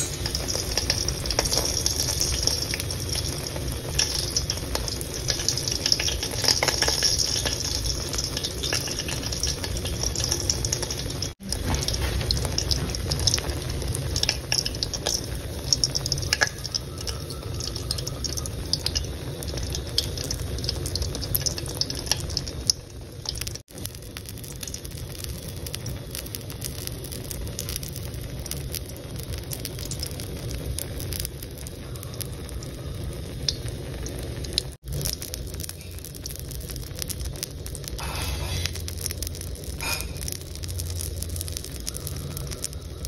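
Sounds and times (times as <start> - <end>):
egg sizzling in oil: 0.0 - 43.0
small crackles and pops: 0.0 - 43.0.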